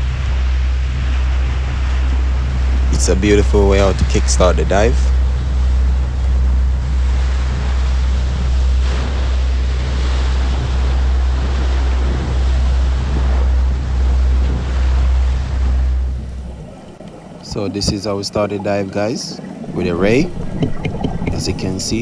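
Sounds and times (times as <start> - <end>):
boat engine drone: 0.0 - 22.0
water rushing past hull: 0.0 - 22.0
wind on microphone: 0.0 - 22.0.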